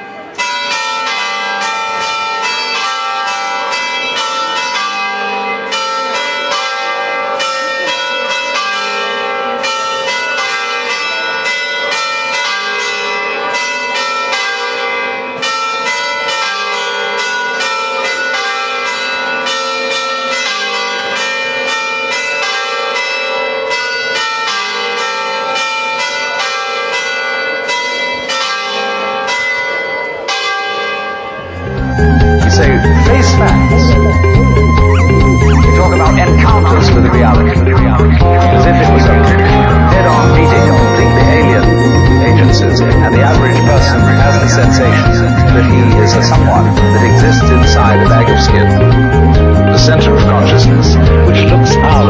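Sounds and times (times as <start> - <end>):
church bells ringing: 0.0 - 52.0.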